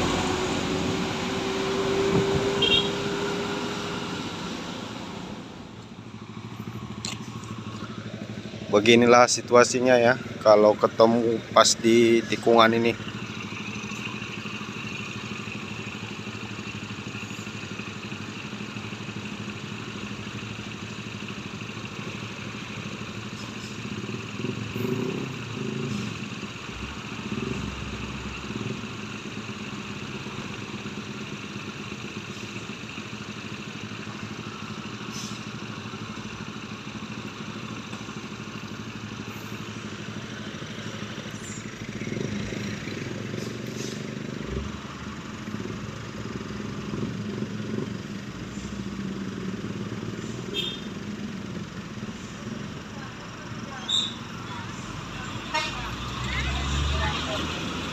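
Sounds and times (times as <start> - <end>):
truck diesel engines rumbling: 0.0 - 57.9.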